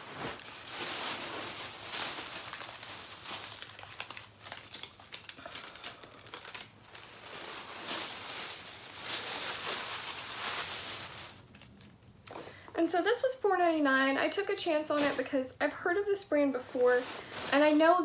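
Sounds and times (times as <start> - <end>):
clothing rustling and crinkling: 0.0 - 13.2, 14.9 - 15.4, 16.5 - 18.0.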